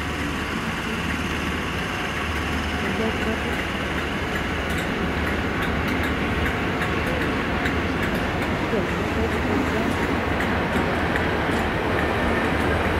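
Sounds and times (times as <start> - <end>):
diesel train engine rumbling: 0.0 - 12.9.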